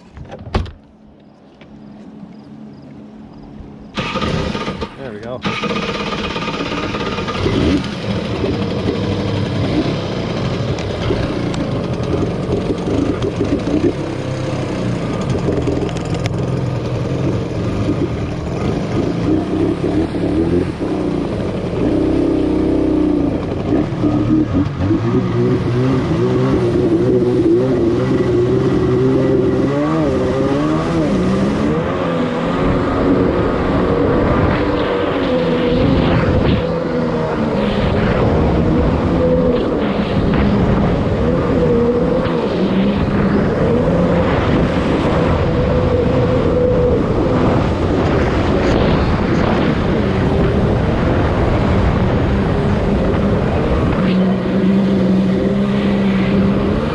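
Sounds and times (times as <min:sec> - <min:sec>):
jet ski engine revving: 0:03.2 - 0:56.9.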